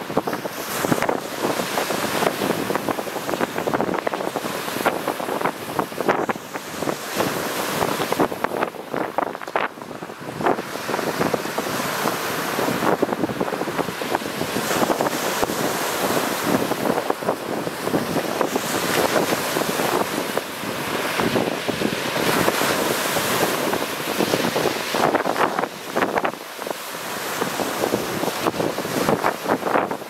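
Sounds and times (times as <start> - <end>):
surf breaking on pebble beach: 0.0 - 30.0
wind buffeting microphone: 0.0 - 30.0.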